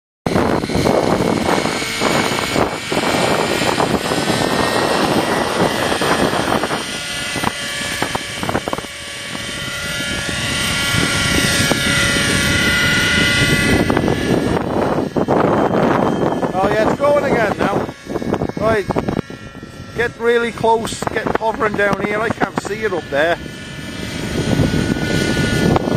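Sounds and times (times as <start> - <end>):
model helicopter engine: 0.3 - 25.9
wind noise on microphone: 0.3 - 25.9.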